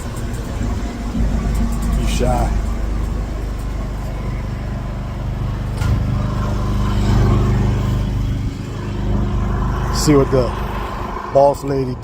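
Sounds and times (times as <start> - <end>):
engine running low drone: 0.0 - 12.0.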